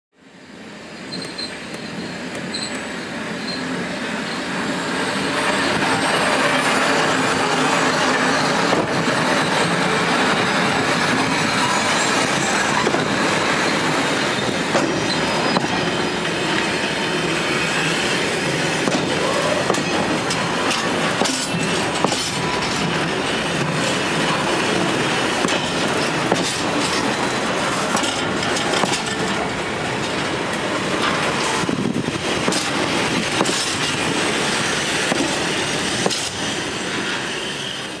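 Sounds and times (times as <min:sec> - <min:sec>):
train wheels squealing on rail: 0:00.3 - 0:38.0
clanks over the track: 0:05.4 - 0:37.2.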